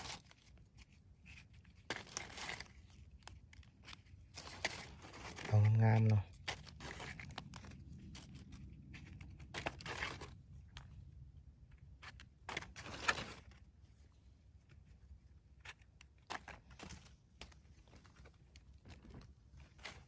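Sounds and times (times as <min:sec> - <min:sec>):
hands rustling and handling mushrooms: 0:00.0 - 0:20.0.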